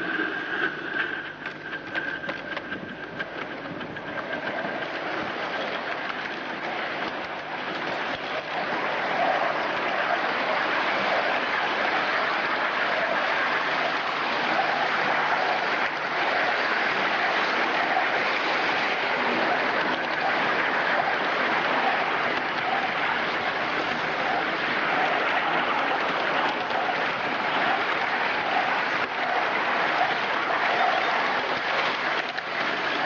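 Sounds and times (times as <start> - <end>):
model steam train rushing: 0.0 - 33.0.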